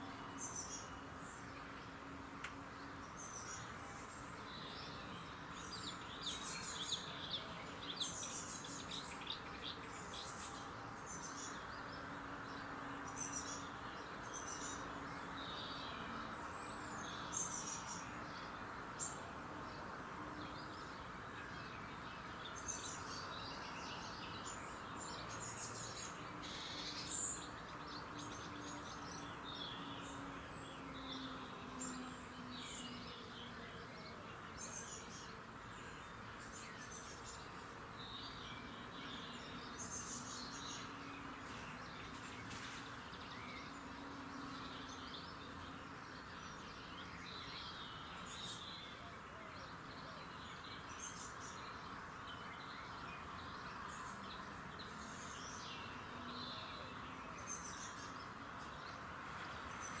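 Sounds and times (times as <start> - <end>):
songbirds chirping: 0.0 - 60.0
steady background hiss: 0.0 - 60.0.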